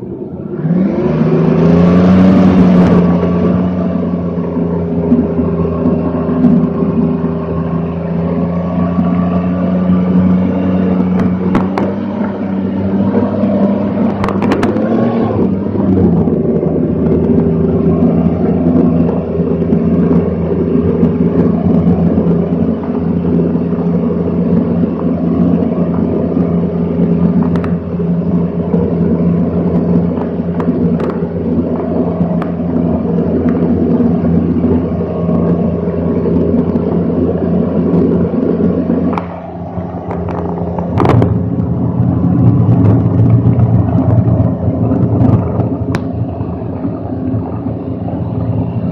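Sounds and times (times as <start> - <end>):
tracked vehicle engine droning: 0.0 - 48.9.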